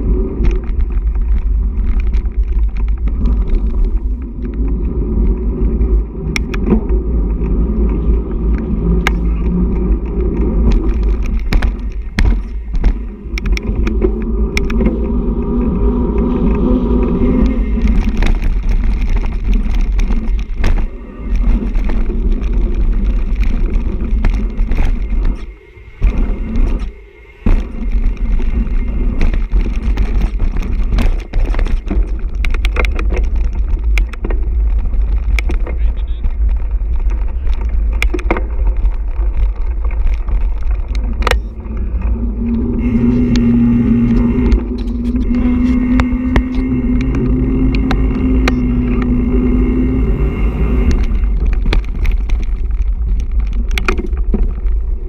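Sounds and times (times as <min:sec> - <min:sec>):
bike clicks and rattles: 0:00.0 - 0:55.0
bike tyres rolling: 0:00.0 - 0:55.0
wind rumble on microphone: 0:00.0 - 0:55.0.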